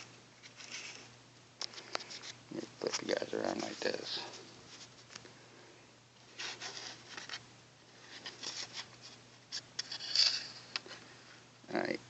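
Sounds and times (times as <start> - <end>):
scratchy rubbing and rustling: 0.0 - 5.1, 6.3 - 11.1
faint low hum: 0.0 - 12.0.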